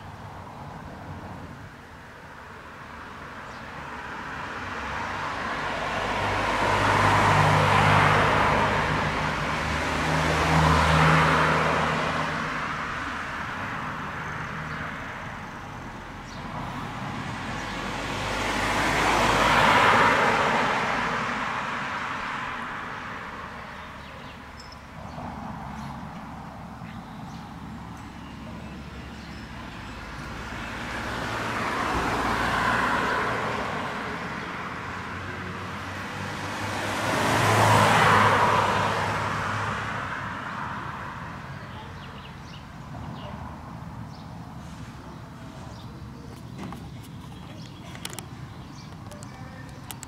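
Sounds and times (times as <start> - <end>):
vehicles passing close by: 0.0 - 50.0.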